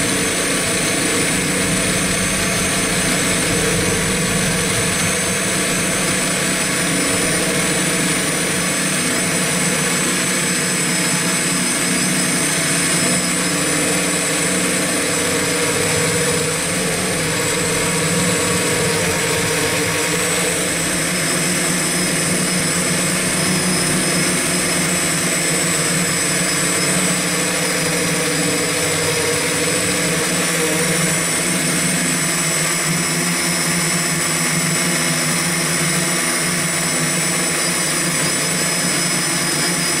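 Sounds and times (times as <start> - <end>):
drone motors buzzing whine: 0.0 - 40.0.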